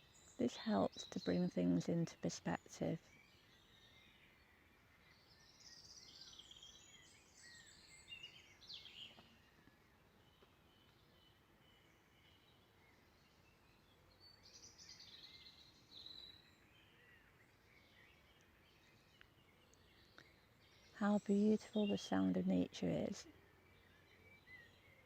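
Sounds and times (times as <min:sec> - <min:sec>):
faint bird chirping: 0:00.0 - 0:25.0.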